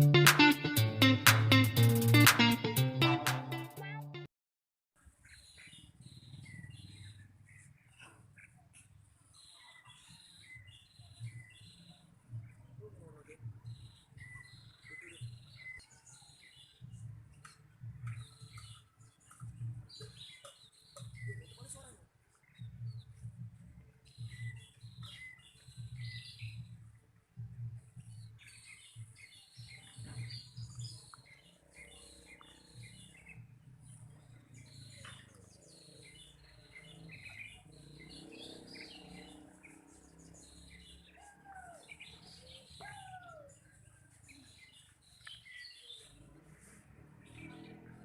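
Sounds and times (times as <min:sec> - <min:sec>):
small songbirds chirping: 0:05.0 - 0:48.0.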